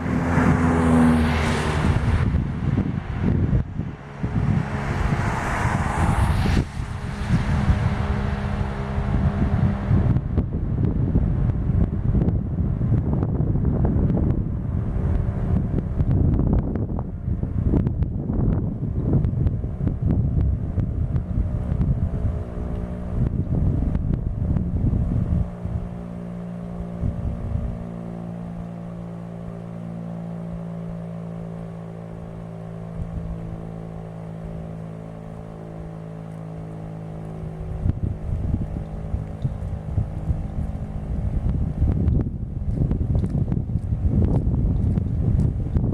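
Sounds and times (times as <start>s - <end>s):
low hum with overtones: 0.0s - 45.9s
wind buffeting microphone: 0.0s - 45.9s.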